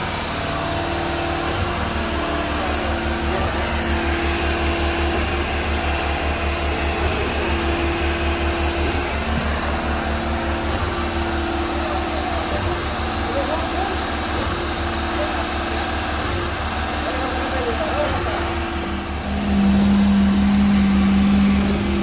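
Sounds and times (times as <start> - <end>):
concrete pump engine drone: 0.0 - 22.0.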